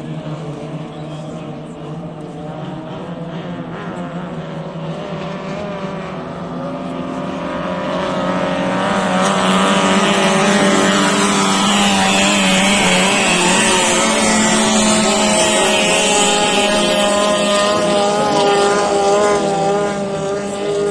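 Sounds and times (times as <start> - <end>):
racing boat engine drone: 0.0 - 20.9.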